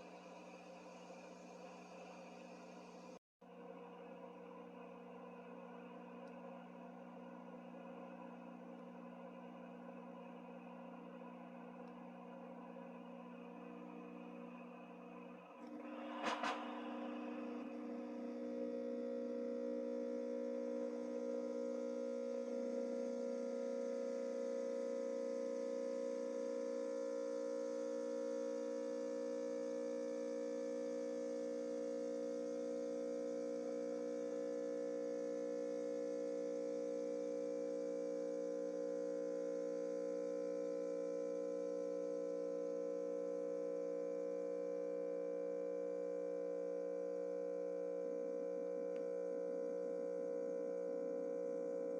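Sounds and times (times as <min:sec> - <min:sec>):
steam mop electric hum: 0:00.0 - 0:03.2, 0:11.8 - 0:51.9.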